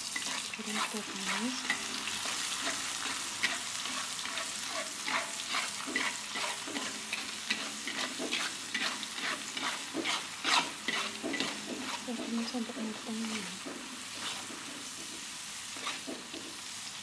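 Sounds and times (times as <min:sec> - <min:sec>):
spatula scraping a wok: 0:00.0 - 0:16.9
spice paste sizzling in hot oil: 0:00.0 - 0:17.0.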